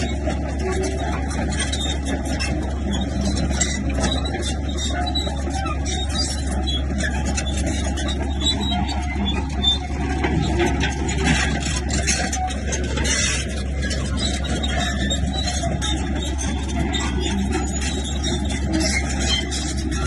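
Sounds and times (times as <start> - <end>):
bulldozer engine drone: 0.0 - 20.0
steel tracks squealing: 0.0 - 20.0.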